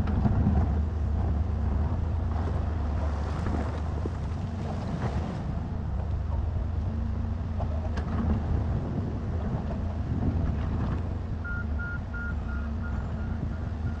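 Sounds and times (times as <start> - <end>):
diesel machinery rumbling: 0.0 - 14.0.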